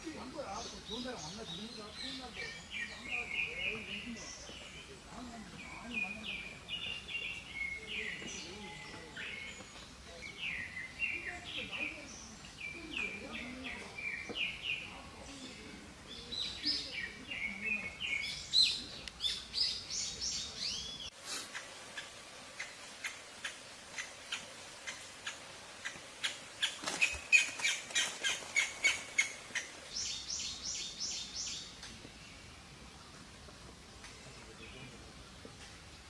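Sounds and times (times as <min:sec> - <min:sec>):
small songbird chirping: 0:00.1 - 0:32.6.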